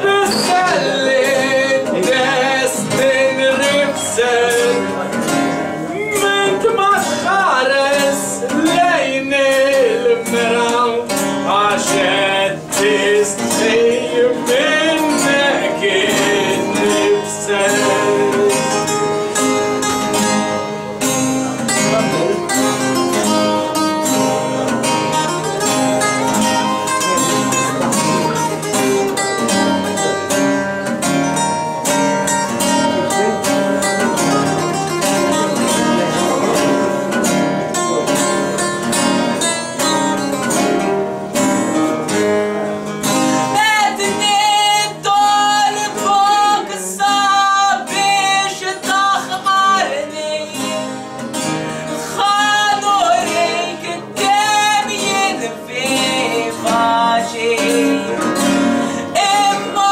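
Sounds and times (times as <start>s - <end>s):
acoustic guitars strumming: 0.0s - 59.9s
man singing folk melody: 0.0s - 59.9s.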